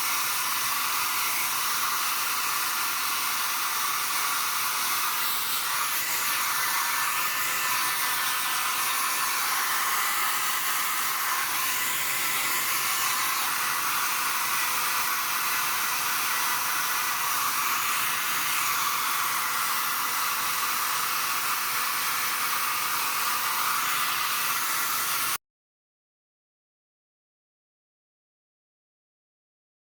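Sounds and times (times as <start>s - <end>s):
electric air blower running: 0.0s - 25.4s.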